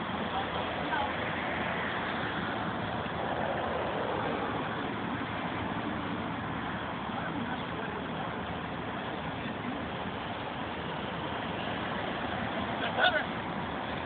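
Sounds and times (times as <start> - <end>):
distant traffic: 0.0 - 14.0.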